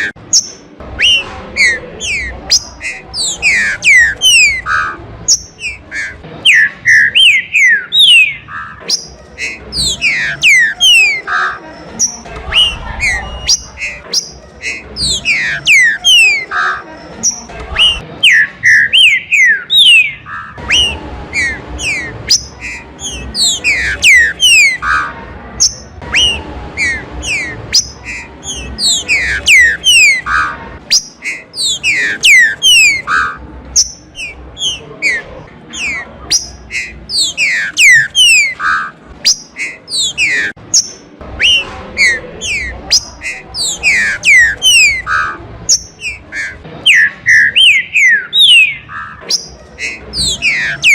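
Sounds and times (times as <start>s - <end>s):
bird singing whistled notes: 0.0s - 11.3s, 12.0s - 16.5s, 17.2s - 25.0s, 25.6s - 50.9s.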